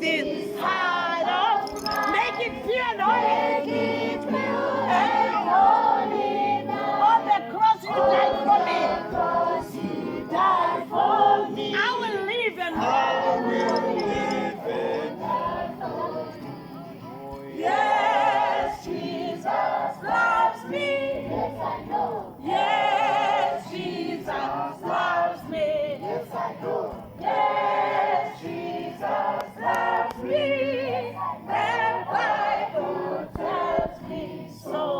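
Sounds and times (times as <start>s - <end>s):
choir singing: 0.0s - 34.9s.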